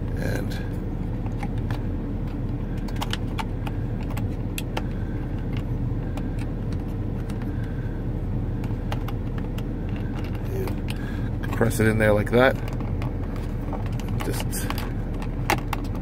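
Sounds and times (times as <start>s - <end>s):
low rumble inside car: 0.0s - 16.0s.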